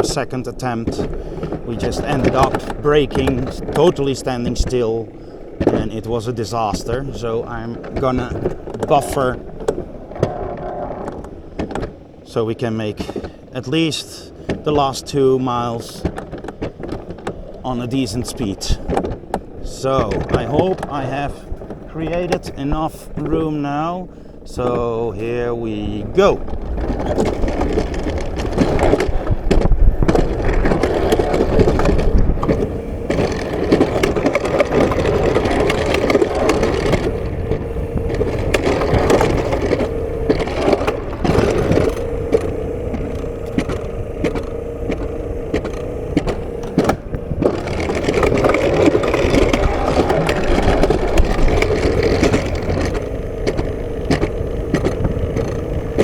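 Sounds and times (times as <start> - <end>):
clacks over rail joints: 0.0 - 56.0
sled wheels rumbling on rails: 0.0 - 56.0.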